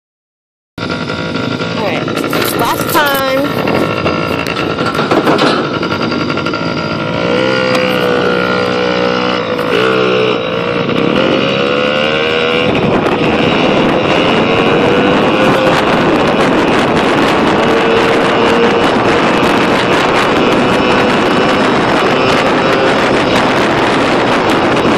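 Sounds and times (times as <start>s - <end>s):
pit bike engine revving: 0.8s - 24.9s
wind buffeting microphone: 0.8s - 24.9s.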